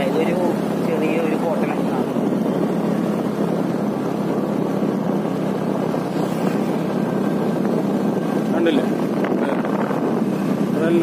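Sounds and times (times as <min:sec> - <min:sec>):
motorbike engine droning: 0:00.0 - 0:11.0
wind on microphone: 0:00.0 - 0:11.0.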